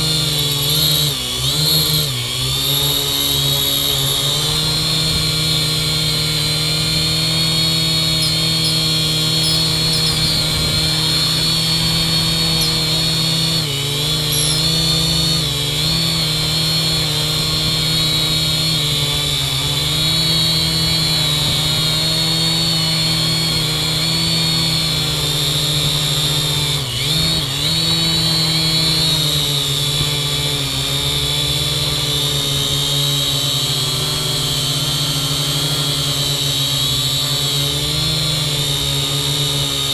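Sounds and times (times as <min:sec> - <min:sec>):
drone propellers buzzing: 0:00.0 - 0:32.9.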